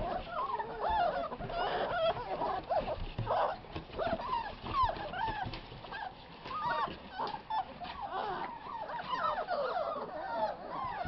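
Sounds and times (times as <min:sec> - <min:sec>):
puppies whining and yelping: 0:00.0 - 0:11.0.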